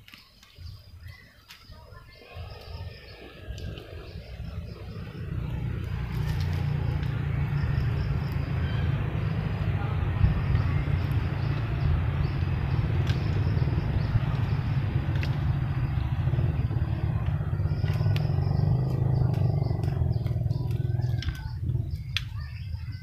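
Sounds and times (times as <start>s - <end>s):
birds chirping: 0.0s - 23.0s
motor engine running: 2.4s - 23.0s.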